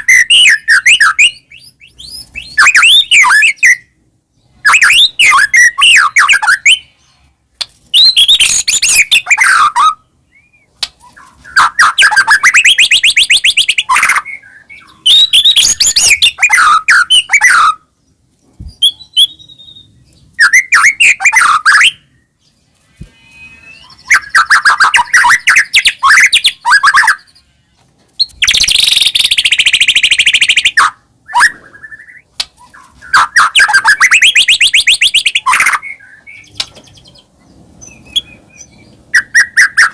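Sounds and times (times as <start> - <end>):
bird singing rapid phrases: 0.0 - 27.6, 28.2 - 39.9.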